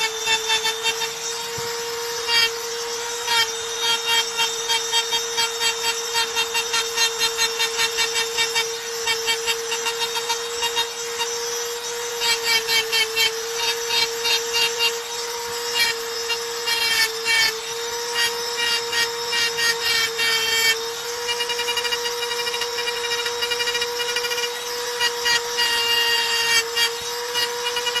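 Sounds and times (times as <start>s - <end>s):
bit scratching stone: 0.0s - 28.0s
rotary tool high whine: 0.0s - 28.0s.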